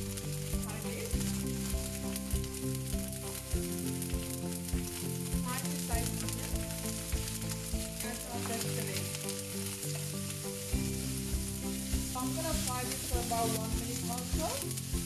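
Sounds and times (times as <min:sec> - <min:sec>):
hot oil sizzling in a wok: 0:00.0 - 0:15.0
music with a steady beat: 0:00.0 - 0:15.0.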